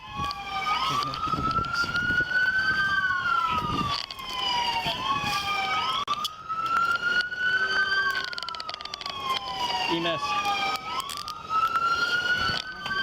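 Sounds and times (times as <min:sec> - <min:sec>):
emergency sirens wailing: 0:00.0 - 0:13.0.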